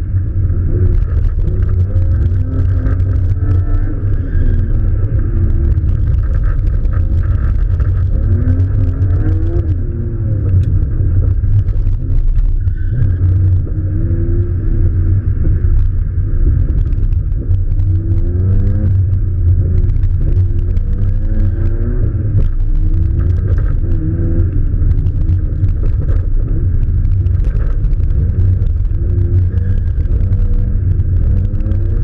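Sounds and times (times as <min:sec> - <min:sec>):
constant low rumble: 0:00.0 - 0:32.0
muffled car engine revving: 0:00.0 - 0:32.0.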